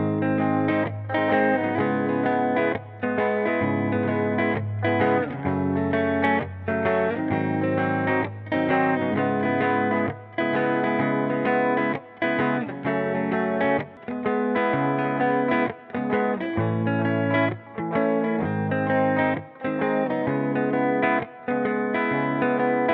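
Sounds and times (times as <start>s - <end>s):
distorted electric guitar music: 0.0s - 22.9s.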